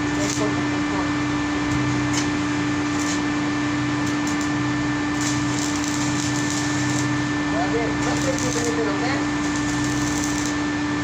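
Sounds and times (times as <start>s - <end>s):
machinery hum and whoosh: 0.0s - 11.0s.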